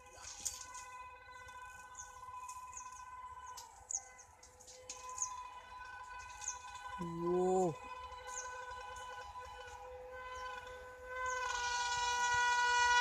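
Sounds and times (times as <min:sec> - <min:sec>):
faint steady humming tone: 0:00.0 - 0:13.0.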